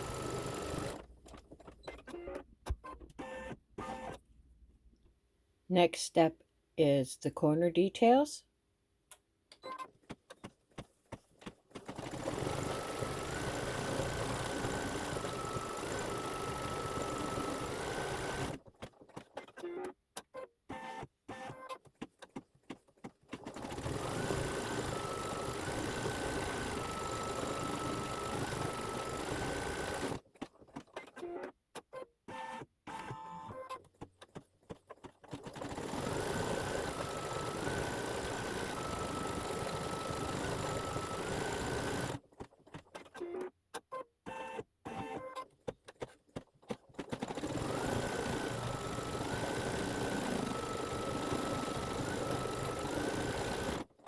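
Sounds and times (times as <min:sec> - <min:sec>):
embroidery machine stitching: 0:00.0 - 0:04.2, 0:11.4 - 0:19.9, 0:20.7 - 0:31.5, 0:32.3 - 0:43.5, 0:44.9 - 0:54.0.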